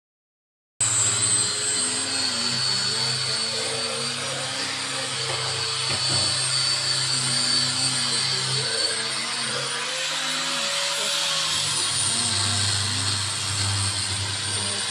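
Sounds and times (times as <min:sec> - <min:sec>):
power tool motor whine: 0:00.8 - 0:14.9.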